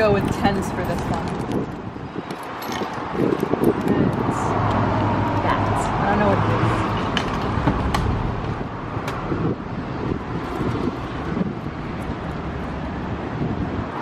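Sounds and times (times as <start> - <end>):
traffic rumble: 0.0 - 14.0
wind buffeting microphone: 0.0 - 14.0.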